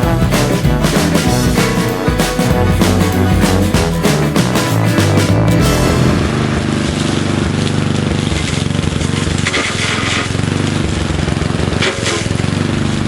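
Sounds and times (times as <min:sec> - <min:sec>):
lawnmower engine at full throttle: 0:00.0 - 0:13.0.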